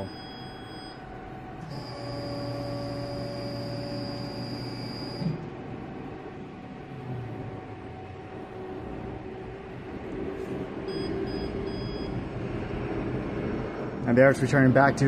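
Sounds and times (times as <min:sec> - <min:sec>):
low steady hum: 0:00.0 - 0:15.0
oven mechanism humming and whining: 0:00.0 - 0:15.0.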